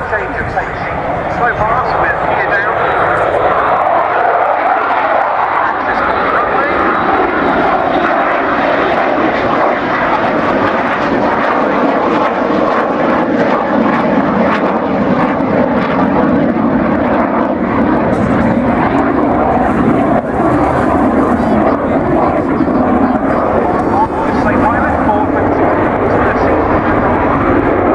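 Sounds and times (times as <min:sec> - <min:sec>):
jet engine rush: 0:00.0 - 0:27.9.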